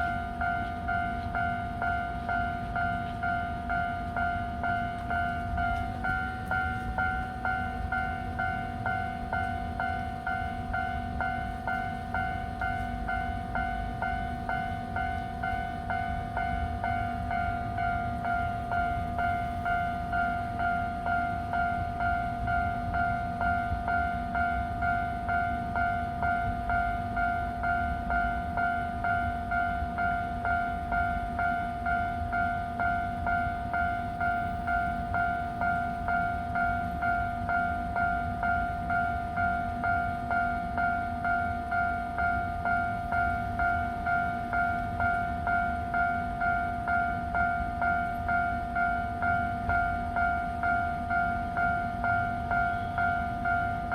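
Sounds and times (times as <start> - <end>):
level-crossing warning bell: 0.0 - 53.9.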